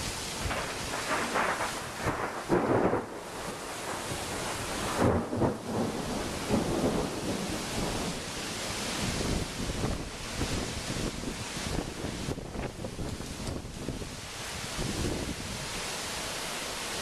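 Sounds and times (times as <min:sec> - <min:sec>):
heavy rain: 0:00.0 - 0:17.0
strong wind: 0:00.0 - 0:17.0.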